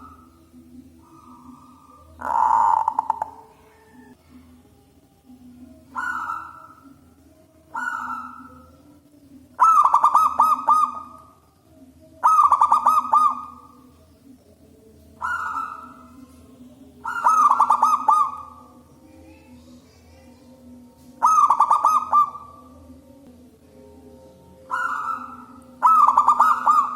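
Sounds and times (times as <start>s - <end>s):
dove cooing: 0.0s - 4.2s, 5.8s - 11.4s, 12.1s - 14.1s, 15.1s - 22.9s, 24.3s - 26.9s
faint low hum: 0.0s - 26.9s.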